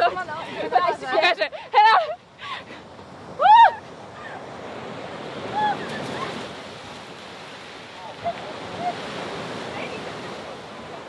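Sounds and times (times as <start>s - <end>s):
surf washing onto beach: 0.0s - 11.0s.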